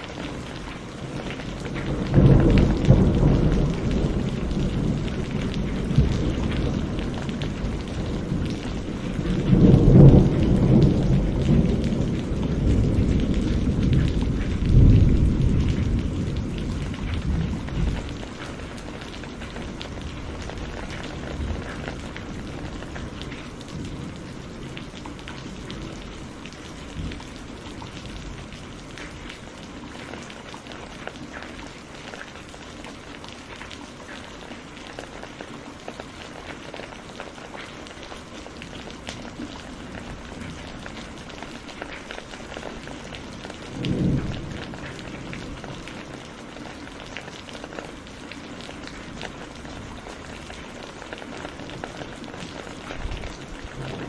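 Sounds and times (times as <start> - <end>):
low thunder rumbling: 0.0 - 31.4, 38.5 - 54.0
rain drops clicking: 0.0 - 54.0.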